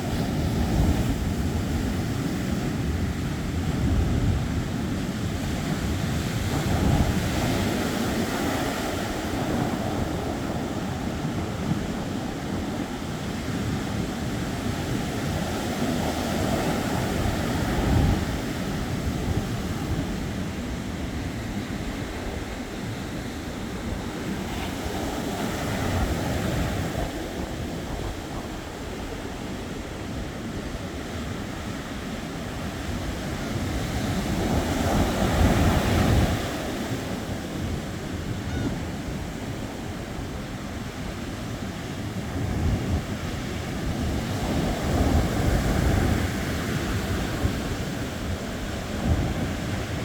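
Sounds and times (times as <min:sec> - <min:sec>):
ocean surf washing in: 0:00.0 - 0:50.0
wind on microphone: 0:00.0 - 0:50.0.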